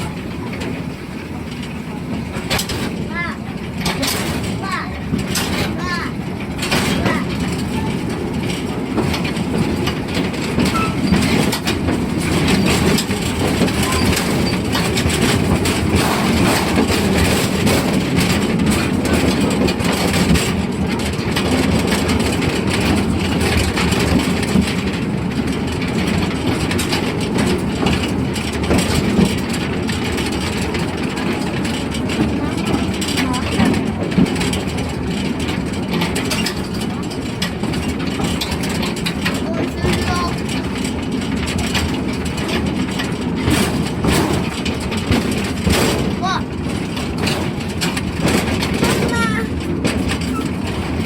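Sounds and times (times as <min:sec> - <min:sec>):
railway car rattling: 0:00.0 - 0:51.0
wheels rumbling on rail: 0:00.0 - 0:51.0.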